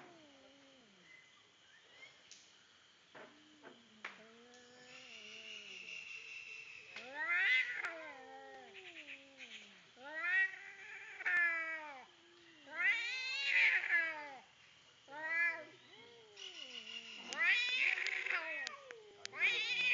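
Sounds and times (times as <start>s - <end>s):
cats caterwauling: 0.0s - 1.0s, 3.2s - 5.7s, 6.9s - 14.5s, 15.1s - 19.9s.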